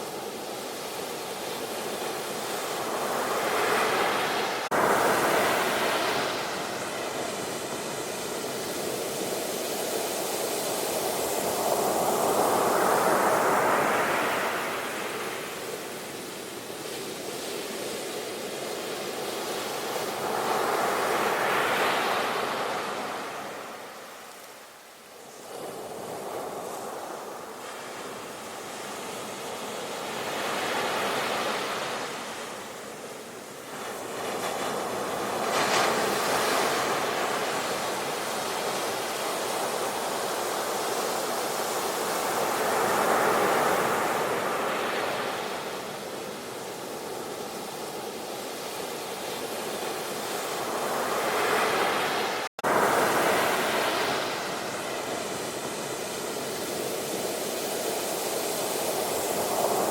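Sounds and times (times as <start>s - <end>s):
sea waves breaking: 0.4s - 17.8s, 25.4s - 59.9s.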